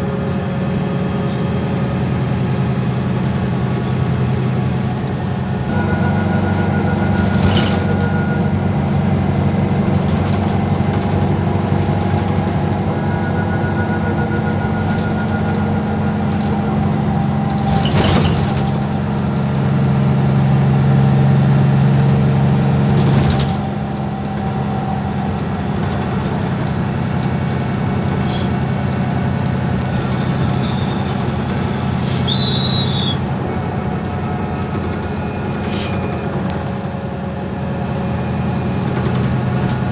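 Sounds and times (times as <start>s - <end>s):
bus diesel engine drone: 0.0s - 39.9s
road noise: 0.0s - 39.9s.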